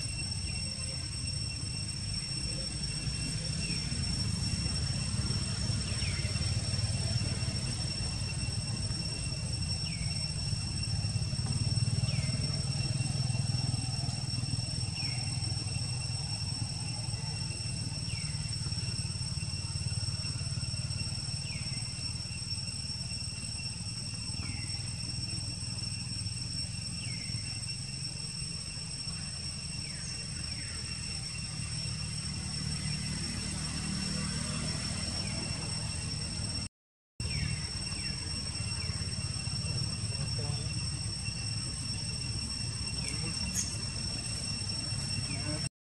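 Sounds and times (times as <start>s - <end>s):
high-pitched ringing: 0.0s - 45.7s.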